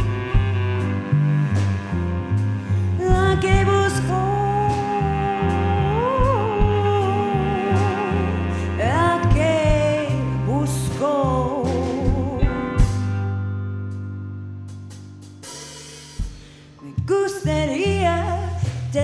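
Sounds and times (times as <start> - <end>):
live band music: 0.0 - 19.0.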